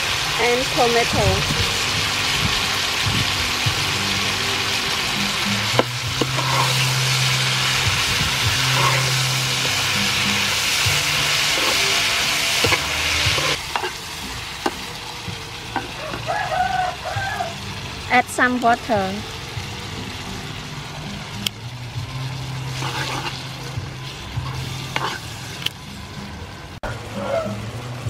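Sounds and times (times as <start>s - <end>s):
clams sizzling in a frying pan: 0.0s - 26.2s.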